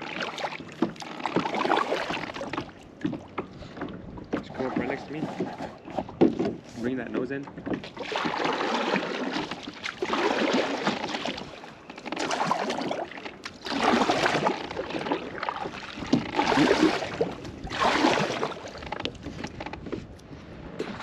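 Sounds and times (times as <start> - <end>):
kayak paddle splashing in water: 0.0 - 6.7, 7.5 - 19.6.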